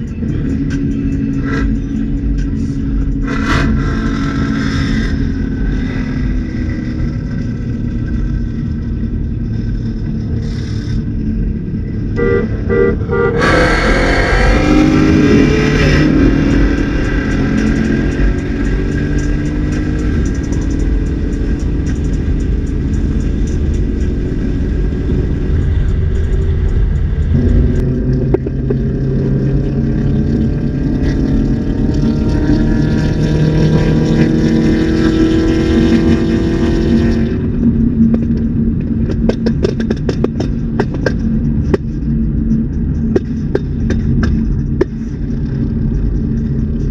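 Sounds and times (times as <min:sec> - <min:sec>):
engine accelerating: 0:00.0 - 0:46.9.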